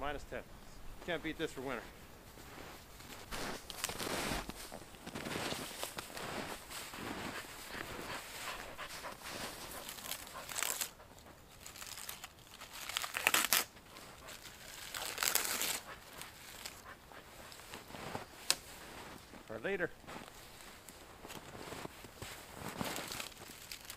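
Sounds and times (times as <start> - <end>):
clothing and backpack rustling: 1.0 - 23.9
footsteps crunching in snow: 1.0 - 23.9.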